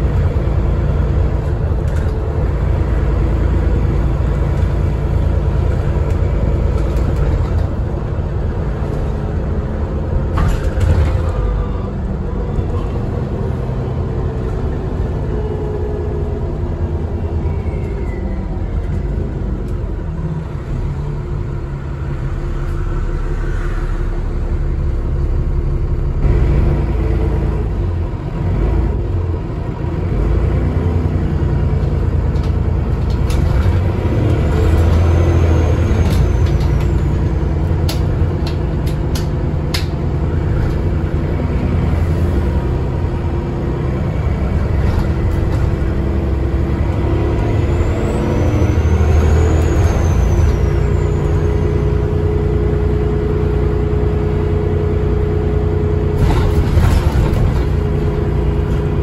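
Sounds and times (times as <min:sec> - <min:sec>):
bus diesel engine drone: 0:00.0 - 0:59.0.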